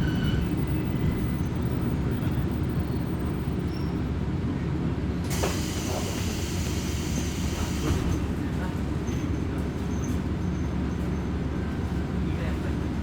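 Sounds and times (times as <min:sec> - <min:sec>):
diesel railcar rumble: 0:00.0 - 0:13.0.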